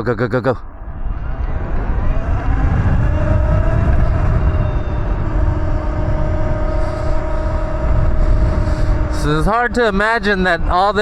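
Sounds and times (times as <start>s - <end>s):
wind rumble on microphone: 0.6s - 11.0s
electric motor whine: 0.7s - 11.0s.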